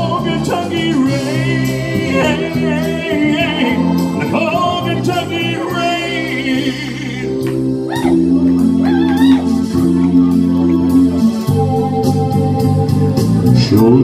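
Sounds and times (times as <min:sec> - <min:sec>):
man singing with vibrato: 0:00.0 - 0:11.5
backing music: 0:00.0 - 0:14.0.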